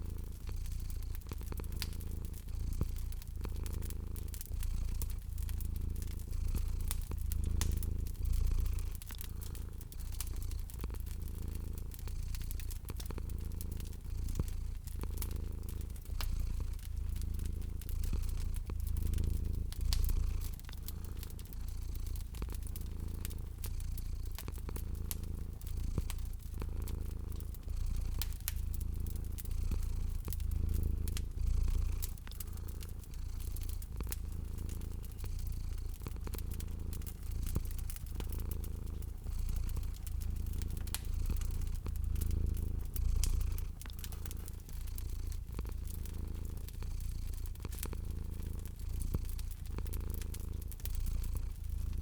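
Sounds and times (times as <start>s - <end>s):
cat purring: 0.0s - 52.0s
fire crackling and popping: 0.0s - 52.0s.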